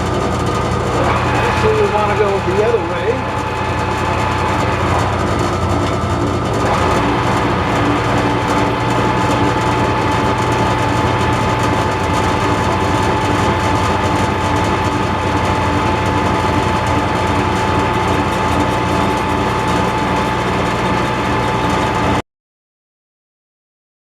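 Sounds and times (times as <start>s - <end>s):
metal lathe cutting with whine: 0.0s - 22.2s.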